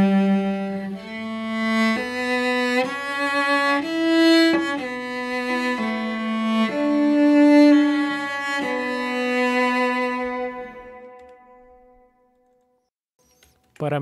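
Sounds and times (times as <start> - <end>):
cello playing slow melody: 0.0 - 12.2.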